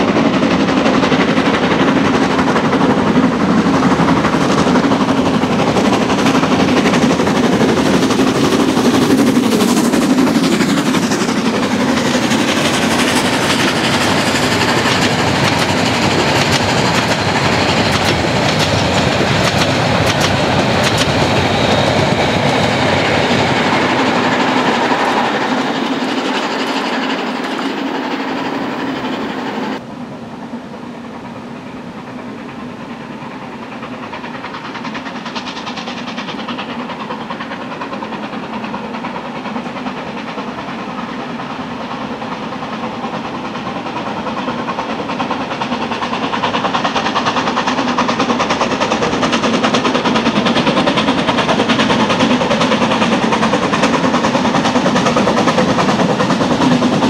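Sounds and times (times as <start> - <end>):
steam locomotive exhaust beats: 0.0 - 57.0
train running along track: 0.0 - 57.0.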